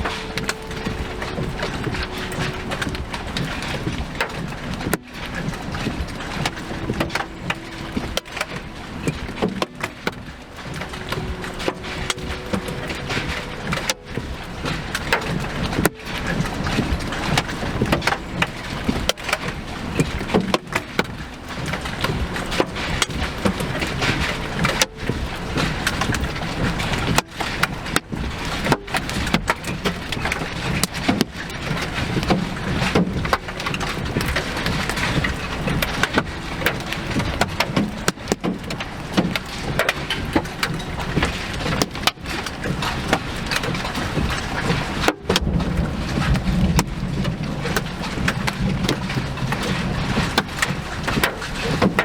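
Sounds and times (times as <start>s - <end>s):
heavy rain on a vehicle: 0.0s - 52.0s
wind against a vehicle: 0.0s - 52.0s.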